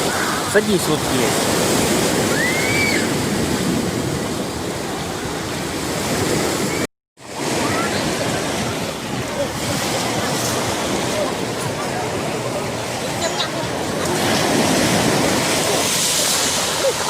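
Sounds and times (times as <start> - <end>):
waves washing onto a beach: 0.0 - 17.0.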